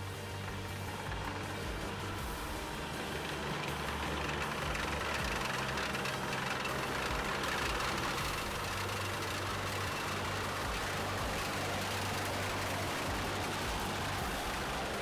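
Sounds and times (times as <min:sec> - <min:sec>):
vehicle engine running: 0:00.0 - 0:15.0
tracks clattering: 0:00.2 - 0:15.0.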